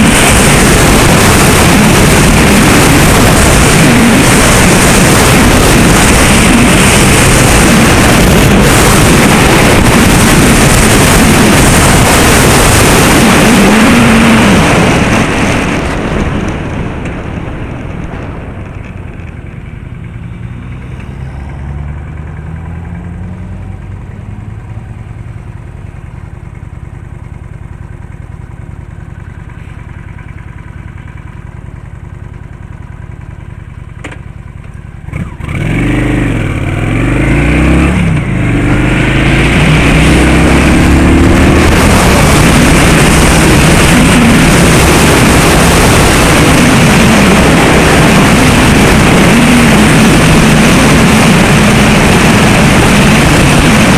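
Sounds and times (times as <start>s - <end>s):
vehicle rushing noise: 0.0s - 32.8s, 35.0s - 53.9s
engine accelerating: 0.0s - 33.3s, 34.0s - 53.9s.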